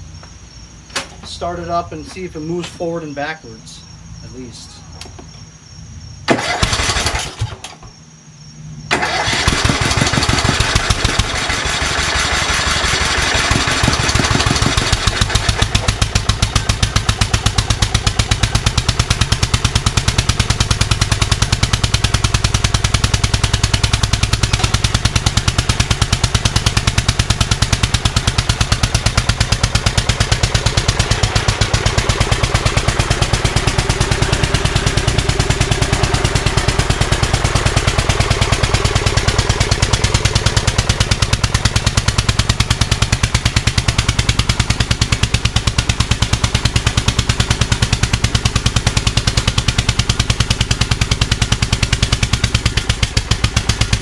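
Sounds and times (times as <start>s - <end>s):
small engine cranking and running: 6.3s - 7.7s, 8.9s - 54.0s.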